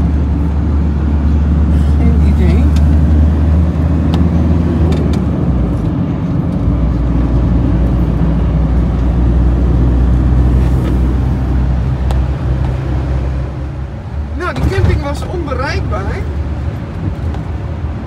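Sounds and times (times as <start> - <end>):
van engine and road drone: 0.0 - 18.0.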